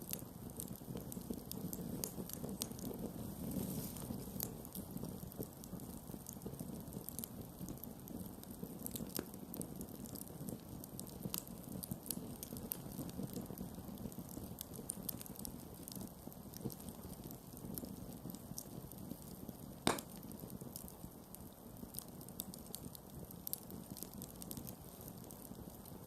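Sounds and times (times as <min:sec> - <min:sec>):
campfire flames burning: 0:00.0 - 0:26.0
fire crackles and pops: 0:00.0 - 0:26.0.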